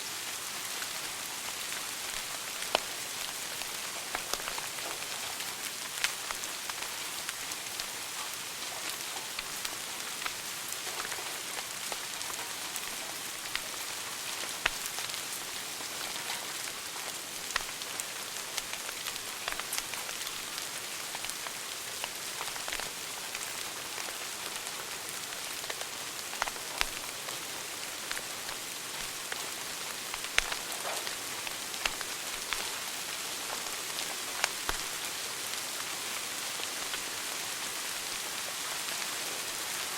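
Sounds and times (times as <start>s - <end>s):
wood fire crackling: 0.4s - 39.0s.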